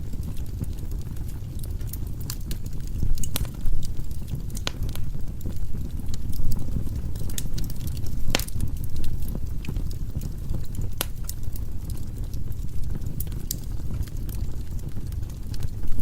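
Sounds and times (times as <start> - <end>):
firewood burning in fireplace: 0.0 - 16.0.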